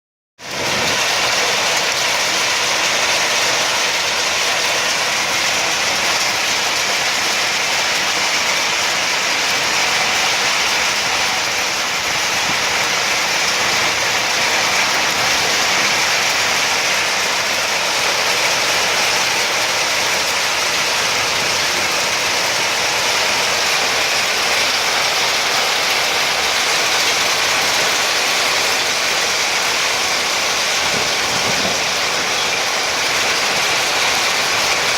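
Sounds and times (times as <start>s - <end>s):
hailstones pelting down: 0.4s - 34.9s.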